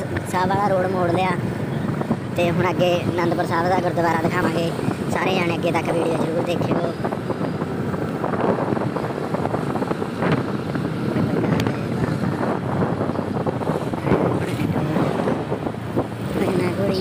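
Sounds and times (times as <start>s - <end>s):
engine and road noise: 0.0s - 17.0s
wind buffeting microphone: 0.0s - 17.0s.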